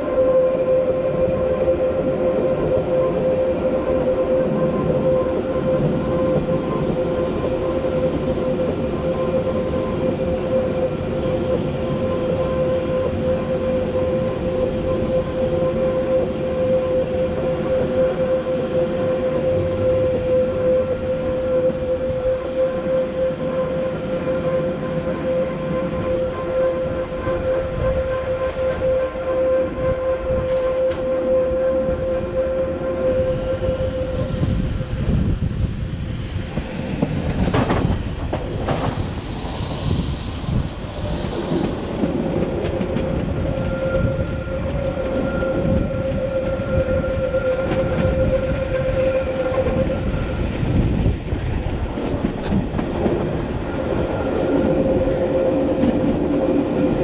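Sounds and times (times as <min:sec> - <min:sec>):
locomotive whine: 0:00.0 - 0:57.0
train wheels rumbling on rails: 0:00.0 - 0:57.0.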